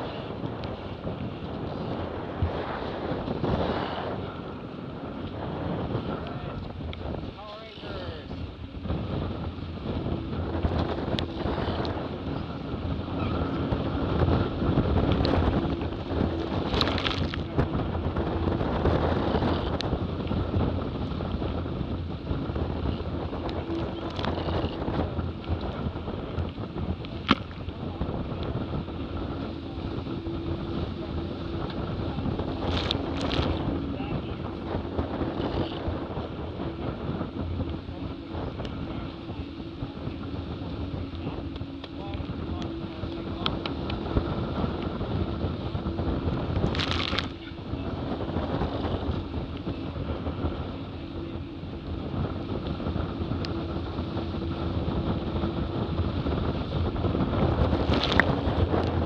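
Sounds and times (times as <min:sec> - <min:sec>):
steady low hum: 0:00.0 - 0:59.0
water rushing past hulls: 0:00.0 - 0:59.0
wind buffeting microphone: 0:00.0 - 0:59.0
sharp clicks from boat: 0:00.3 - 0:01.8, 0:06.2 - 0:07.1, 0:10.6 - 0:22.1, 0:22.8 - 0:59.0.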